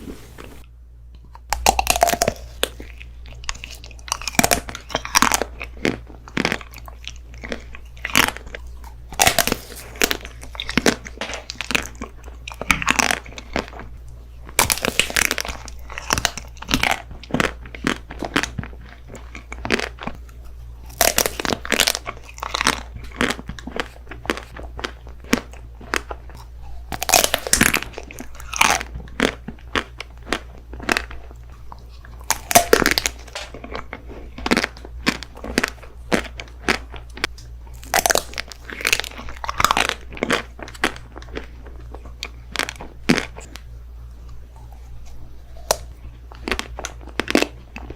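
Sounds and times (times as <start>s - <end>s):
crunchy bites and chewing: 1.2s - 47.9s.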